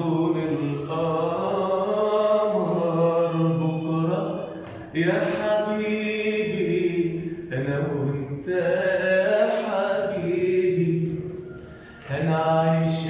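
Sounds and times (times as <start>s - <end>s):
man singing long notes: 0.0s - 13.0s.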